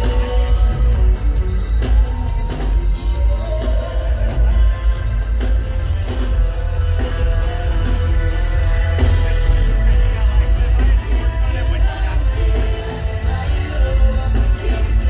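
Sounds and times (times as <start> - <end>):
heavy bass line: 0.0 - 15.0
live reggae band: 0.0 - 15.0.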